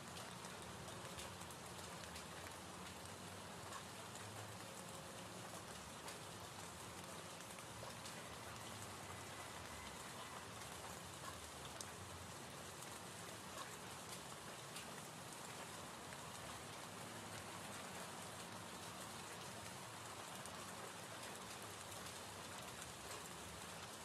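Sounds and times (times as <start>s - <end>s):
gentle rain patter: 0.0s - 24.0s.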